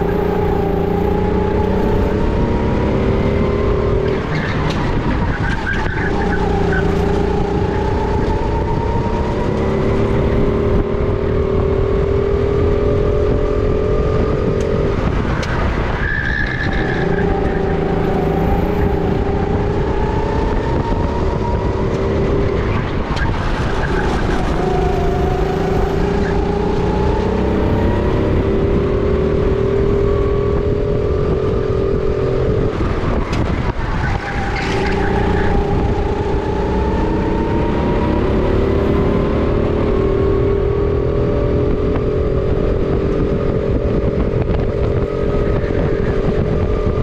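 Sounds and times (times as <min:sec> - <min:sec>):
kart engine revving: 0:00.0 - 0:47.0.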